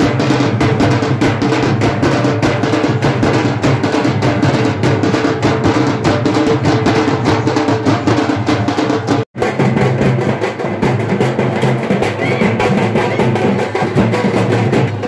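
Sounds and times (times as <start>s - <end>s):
procession drums beating: 0.0s - 15.0s.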